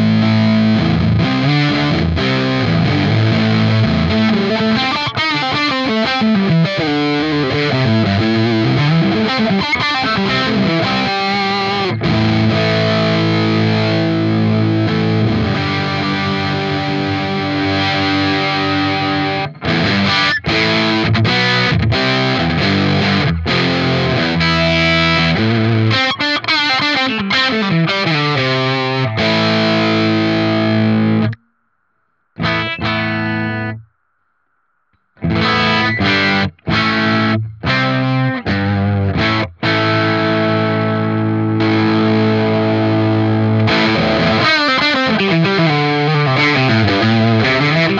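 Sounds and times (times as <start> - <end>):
distorted electric guitar chords: 0.0 - 31.5, 32.4 - 33.9, 35.1 - 47.9.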